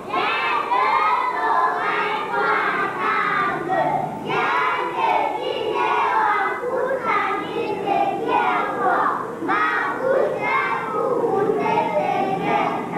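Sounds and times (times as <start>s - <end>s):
children singing in unison: 0.0s - 12.9s.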